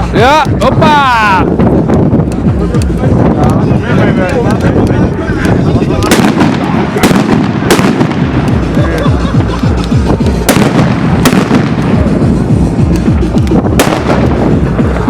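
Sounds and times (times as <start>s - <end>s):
background music: 0.0s - 15.0s
firework bangers banging: 0.0s - 15.0s.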